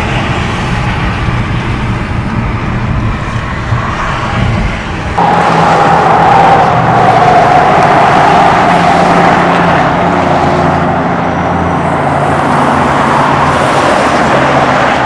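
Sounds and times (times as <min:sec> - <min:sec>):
car engine hum: 0:00.0 - 0:15.0
tyre and wind noise: 0:00.0 - 0:15.0.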